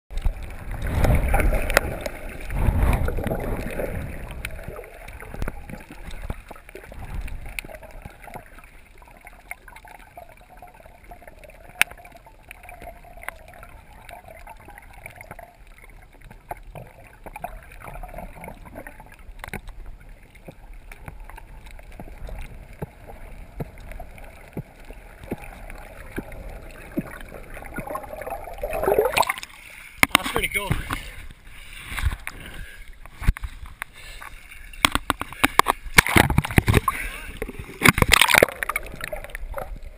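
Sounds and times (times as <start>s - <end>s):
water rushing and sloshing: 0.1s - 39.9s.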